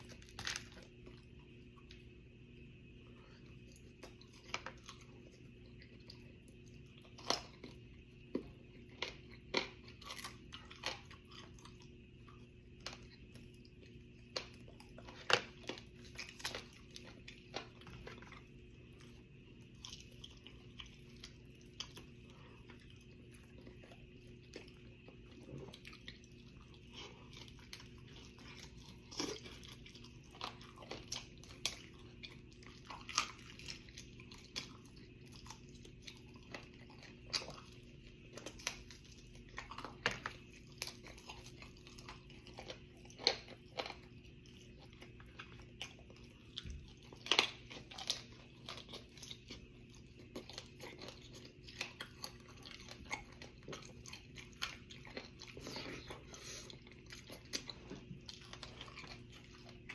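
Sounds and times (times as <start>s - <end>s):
chewing crispy fried chicken: 0.0s - 59.9s
faint steady hum: 0.0s - 59.9s.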